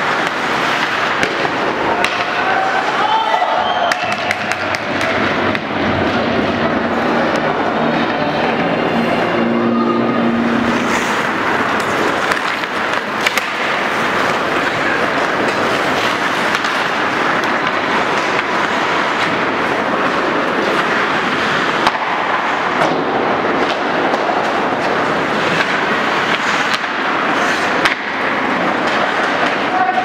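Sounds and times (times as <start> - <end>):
hockey sticks clacking: 0.0 - 30.0
skates scraping on ice: 0.0 - 30.0.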